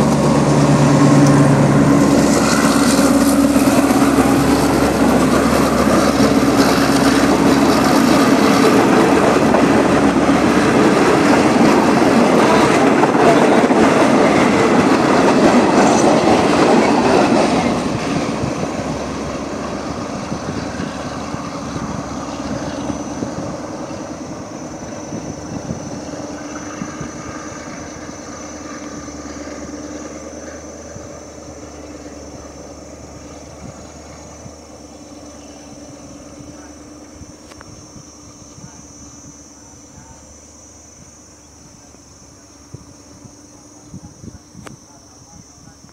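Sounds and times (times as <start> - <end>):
train coaches rolling past: 0.0 - 45.9.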